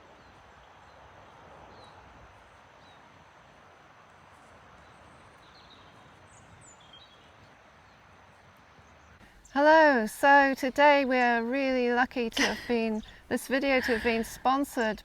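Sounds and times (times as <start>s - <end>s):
soft steady hiss: 0.0s - 15.0s.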